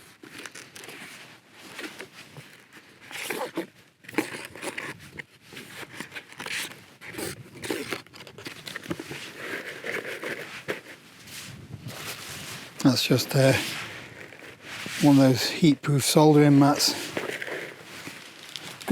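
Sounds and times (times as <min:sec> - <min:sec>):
rustling and crinkling: 0:00.0 - 0:18.9.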